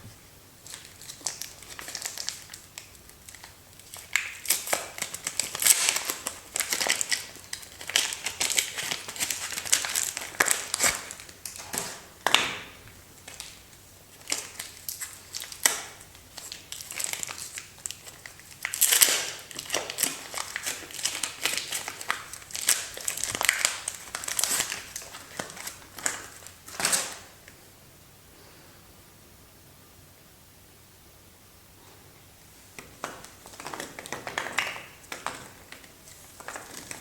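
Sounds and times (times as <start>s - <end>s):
packaging crinkling and tearing: 0.6s - 27.4s, 32.8s - 37.0s.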